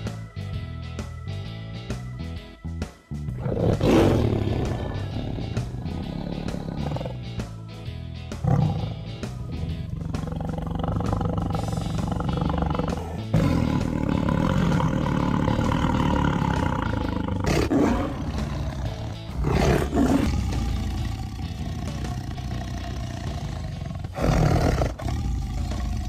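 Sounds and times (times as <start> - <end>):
background music: 0.0 - 26.0
tiger roaring: 3.3 - 7.5, 8.4 - 26.0.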